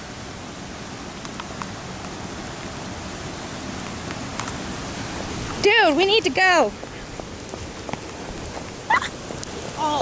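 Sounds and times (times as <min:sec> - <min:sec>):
creek rapids rushing: 0:00.0 - 0:10.0
rain falling: 0:00.0 - 0:10.0
raindrops hitting camera: 0:00.6 - 0:10.0.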